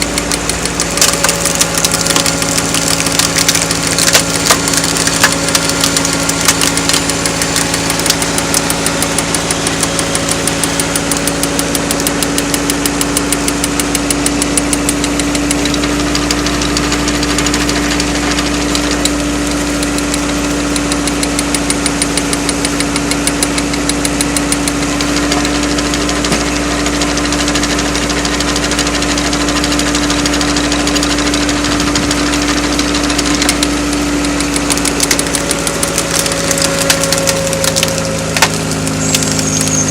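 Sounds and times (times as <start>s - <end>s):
wood splitter engine running: 0.0s - 39.9s.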